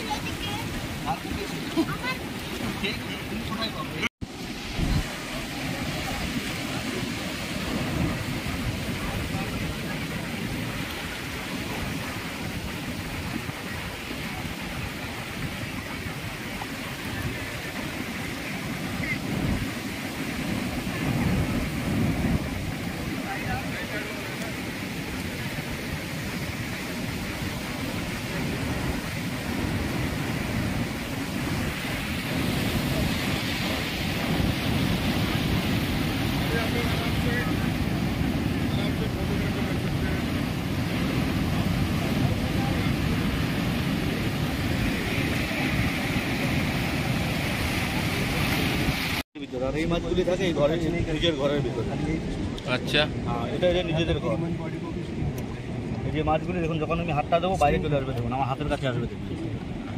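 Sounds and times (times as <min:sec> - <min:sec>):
sea surf breaking over reef: 0:00.0 - 0:59.9
wind rumbling on microphone: 0:00.0 - 0:59.9.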